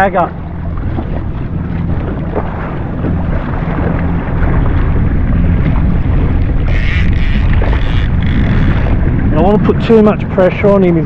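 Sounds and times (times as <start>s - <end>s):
jet ski engine running: 0.0s - 11.0s
wind buffeting microphone: 0.0s - 11.0s.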